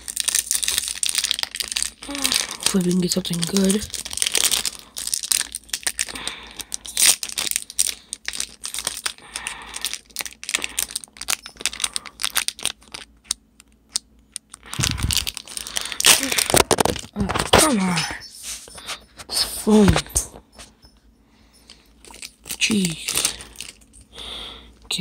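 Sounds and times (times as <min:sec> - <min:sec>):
foil pack crinkling: 0:00.0 - 0:20.7, 0:21.6 - 0:24.9.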